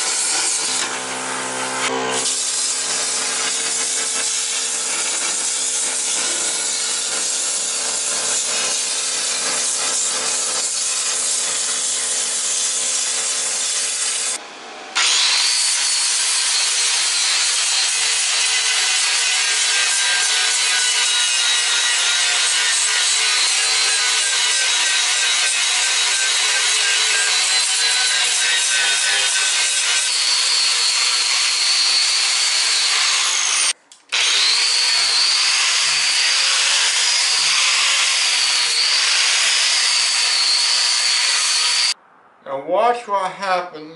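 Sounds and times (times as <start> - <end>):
power tool abrading metal: 0.0 - 42.0.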